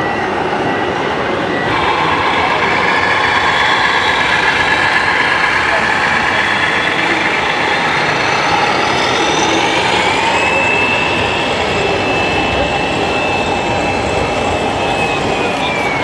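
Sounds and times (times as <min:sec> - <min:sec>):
model truck engine whine: 0:00.0 - 0:16.0.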